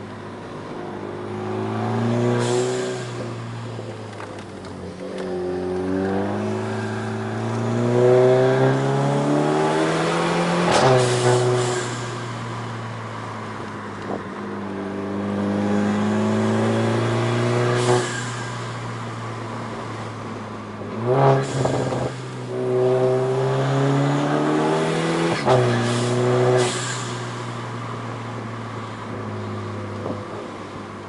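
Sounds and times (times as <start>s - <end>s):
car engine accelerating hard: 0.6s - 31.0s.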